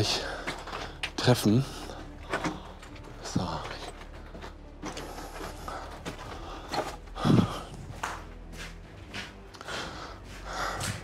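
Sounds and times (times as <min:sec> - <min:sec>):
footsteps and scuffs on floor: 0:00.0 - 0:11.0.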